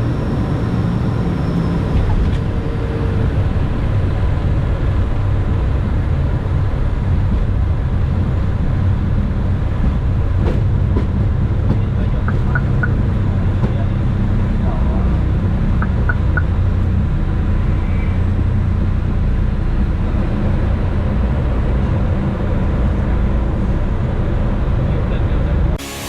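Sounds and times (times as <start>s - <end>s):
airliner landing roll rumble: 0.0s - 26.0s.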